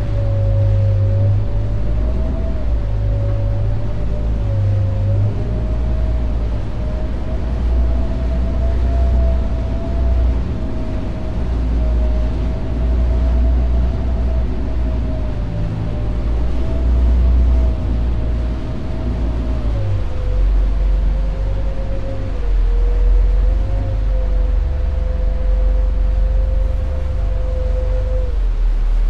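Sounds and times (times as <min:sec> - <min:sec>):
boat engines rumbling: 0:00.0 - 0:29.0
high engine whine: 0:00.0 - 0:29.0.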